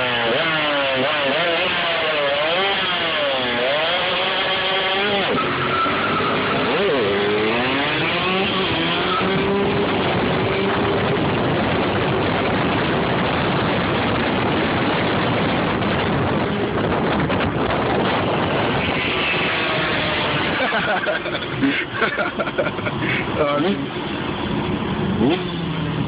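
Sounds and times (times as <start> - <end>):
vehicle engine accelerating: 0.0 - 26.0
wind and road noise: 0.0 - 26.0.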